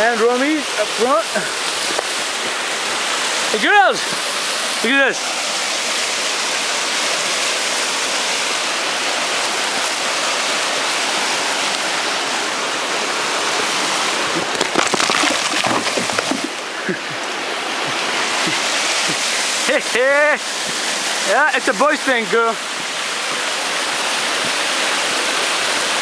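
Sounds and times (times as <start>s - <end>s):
rocky creek rushing: 0.0s - 26.0s.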